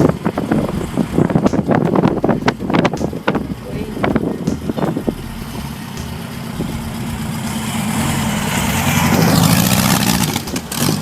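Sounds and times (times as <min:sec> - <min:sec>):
road traffic: 0:00.0 - 0:11.0
trike engine running: 0:00.0 - 0:11.0.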